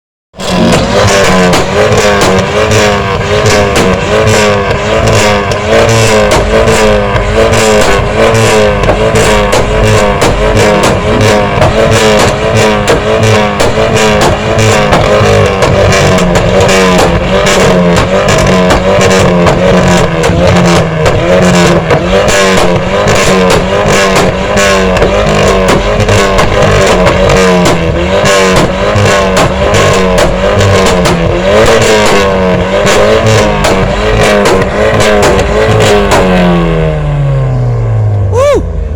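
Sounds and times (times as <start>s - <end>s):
exhaust pops and crackles: 0.3s - 37.6s
engine running hard: 0.3s - 38.9s.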